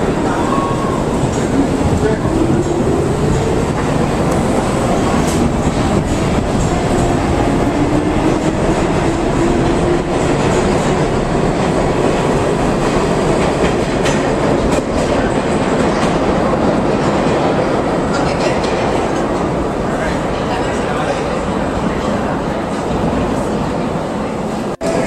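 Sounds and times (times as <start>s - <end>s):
rail clicks: 0.0s - 23.8s
subway train rumbling: 0.0s - 25.0s.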